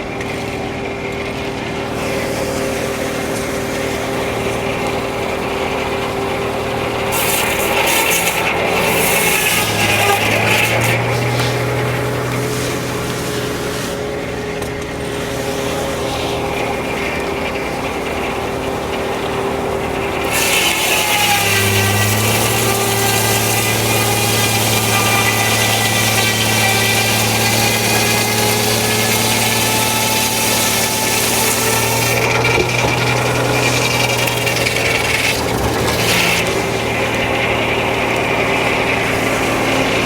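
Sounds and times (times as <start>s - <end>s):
circular saw blade cutting log: 0.0s - 40.0s
power unit engine: 0.0s - 40.0s.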